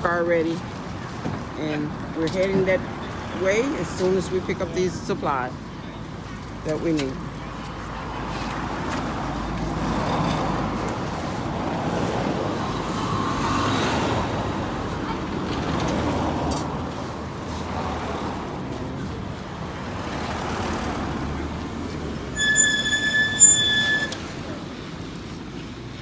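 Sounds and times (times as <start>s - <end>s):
vehicles passing on street: 0.0s - 26.0s.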